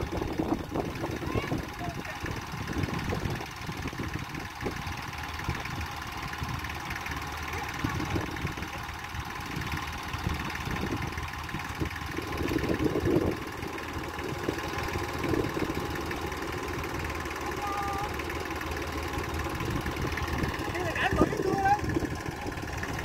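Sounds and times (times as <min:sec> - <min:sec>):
tractor diesel engine knocking: 0:00.0 - 0:23.0.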